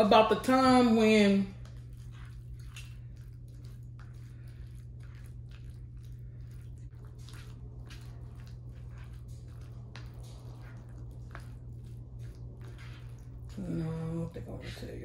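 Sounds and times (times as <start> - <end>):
steady low hum: 0.0 - 15.0
wet chewing and lip-smacking: 1.6 - 13.8.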